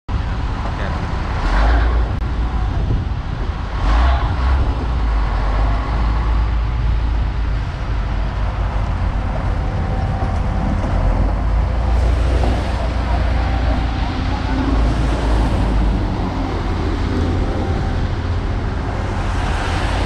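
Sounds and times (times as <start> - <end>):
diesel machinery rumbling: 0.1 - 20.0.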